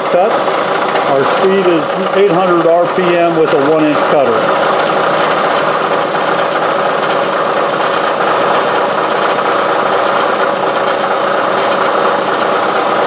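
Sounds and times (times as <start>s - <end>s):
milling machine cutting metal: 0.0s - 13.0s.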